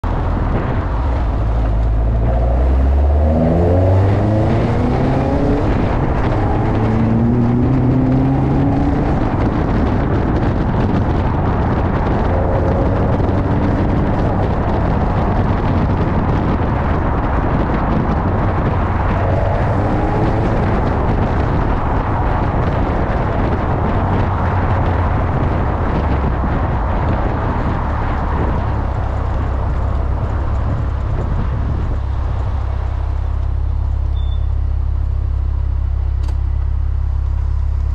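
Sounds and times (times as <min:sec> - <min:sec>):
wind noise: 0:00.0 - 0:37.9
sports car engine revving: 0:00.2 - 0:37.9.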